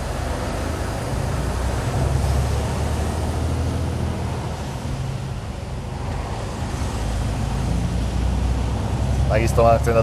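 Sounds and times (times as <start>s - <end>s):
truck engine drone: 0.0s - 10.0s.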